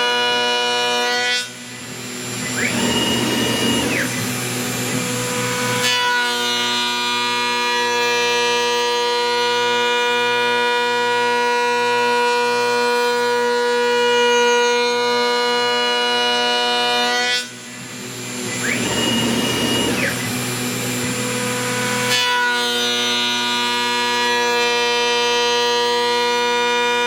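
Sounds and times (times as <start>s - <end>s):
router spindle whining: 0.0s - 27.0s.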